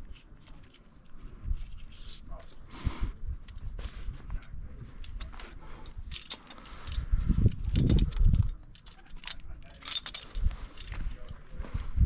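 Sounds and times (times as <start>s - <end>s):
metal climbing gear clinking: 0.0s - 11.9s.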